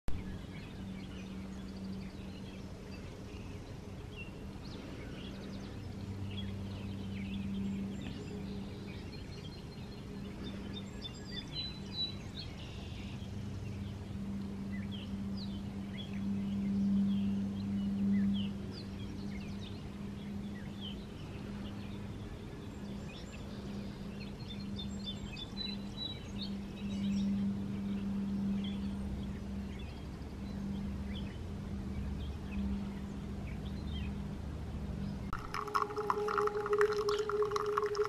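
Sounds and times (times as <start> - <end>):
songbirds chirping: 0.1 - 38.0
steady low hum: 0.1 - 38.0.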